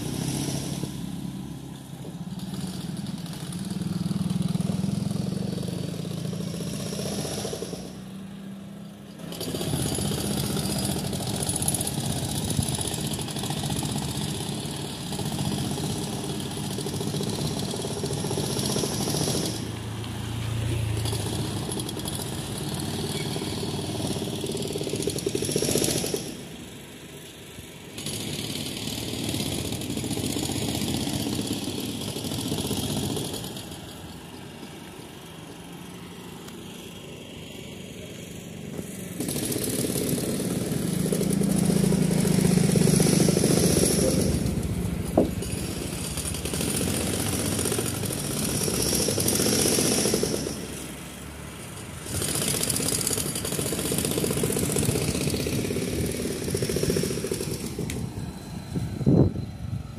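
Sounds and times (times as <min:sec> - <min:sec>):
motorcycles passing slowly: 0:00.0 - 0:59.9.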